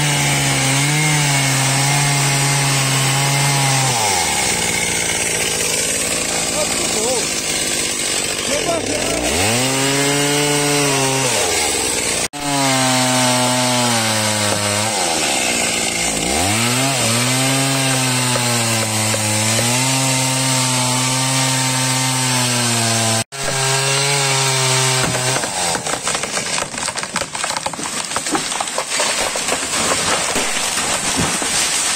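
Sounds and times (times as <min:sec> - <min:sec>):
chainsaw cutting tree trunk: 0:00.0 - 0:31.9.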